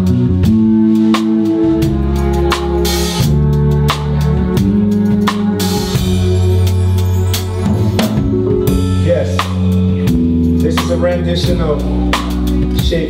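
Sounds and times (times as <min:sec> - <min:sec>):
band music: 0:00.0 - 0:13.0
drum kit beat: 0:00.0 - 0:13.0.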